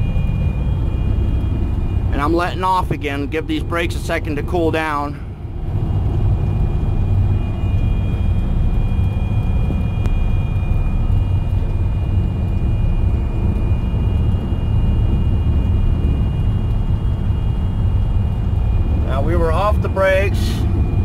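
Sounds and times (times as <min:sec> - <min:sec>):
diesel truck engine drone: 0:00.0 - 0:21.0
faint high whine: 0:00.0 - 0:21.0.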